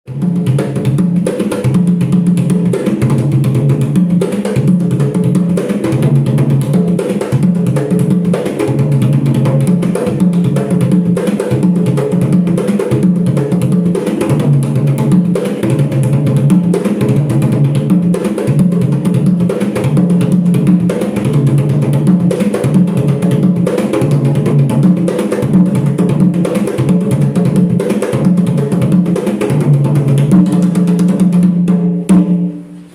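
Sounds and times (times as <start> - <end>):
hand drum rhythm: 0.1 - 32.8.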